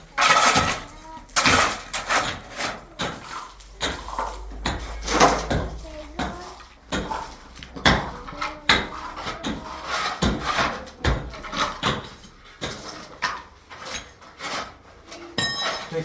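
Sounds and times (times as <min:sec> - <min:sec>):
sharp knocks and clatters: 0:00.0 - 0:16.0.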